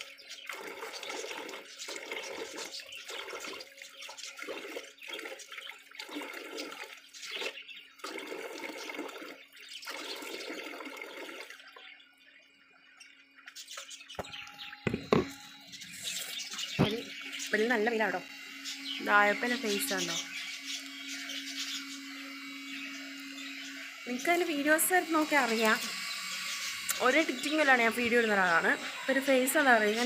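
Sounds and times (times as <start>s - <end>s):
water running from a tap: 0.0s - 11.8s, 16.3s - 30.0s.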